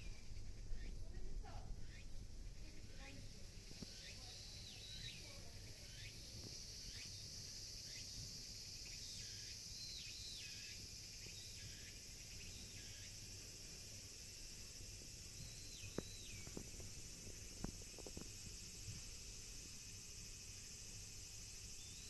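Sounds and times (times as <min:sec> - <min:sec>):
insect chorus hiss: 0:00.0 - 0:22.0.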